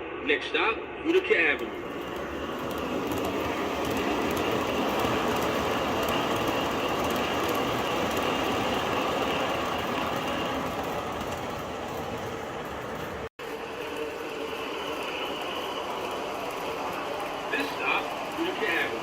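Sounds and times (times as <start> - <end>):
model train running on track: 0.6 - 19.0.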